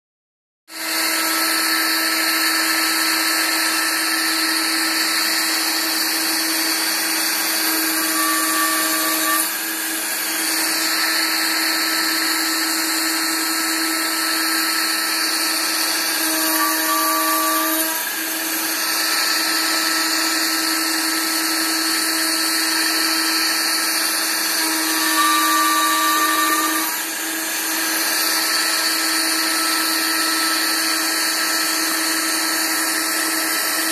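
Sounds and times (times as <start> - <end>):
router cutting wood: 0.7 - 33.9
router running: 0.7 - 33.9.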